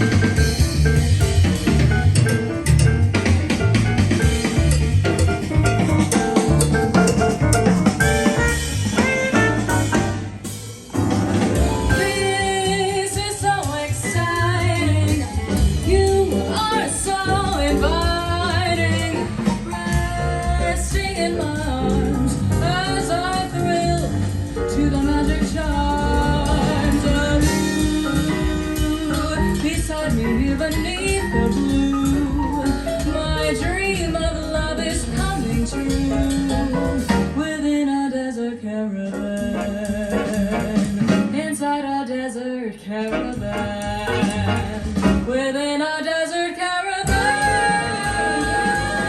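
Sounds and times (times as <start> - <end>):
song with drums bass and singing: 0.0 - 42.0, 42.8 - 49.0.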